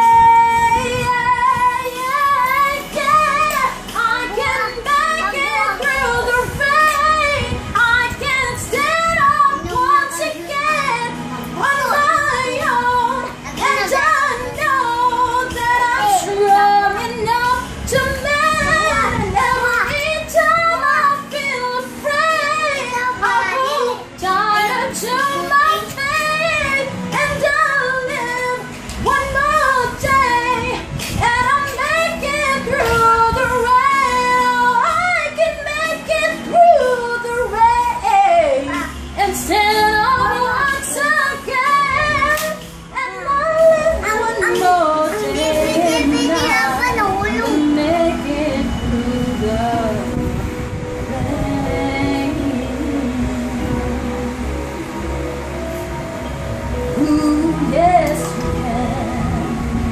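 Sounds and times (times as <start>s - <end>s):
woman singing pop ballad: 0.0s - 56.0s, 56.7s - 59.9s.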